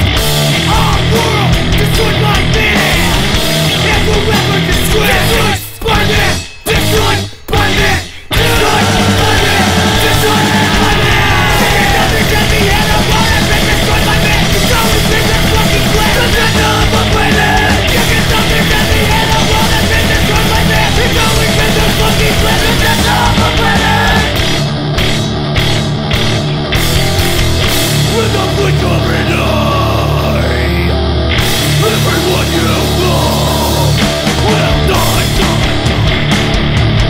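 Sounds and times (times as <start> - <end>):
hardcore punk music: 0.0 - 37.0.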